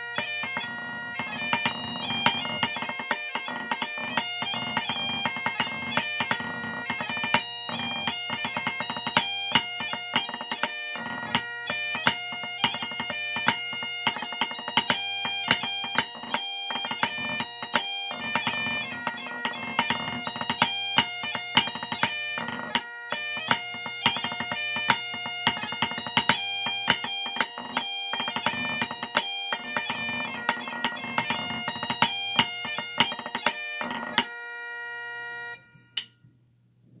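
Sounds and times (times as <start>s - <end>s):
drumsticks tapping on practice pad: 0.0s - 34.3s
bagpipe playing a march: 0.0s - 35.9s.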